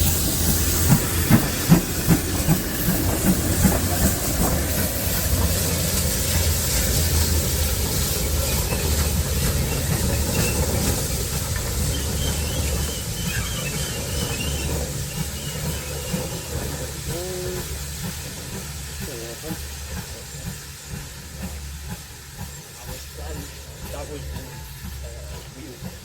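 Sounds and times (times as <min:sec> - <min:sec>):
locomotive sharp beats: 0:00.0 - 0:26.0
steam locomotive hissing: 0:00.0 - 0:26.0.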